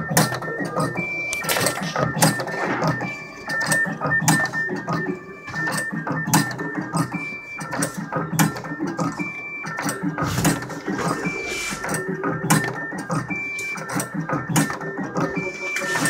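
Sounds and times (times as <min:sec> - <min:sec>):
cable feeding rollers: 0:00.0 - 0:16.0
music: 0:00.0 - 0:16.0.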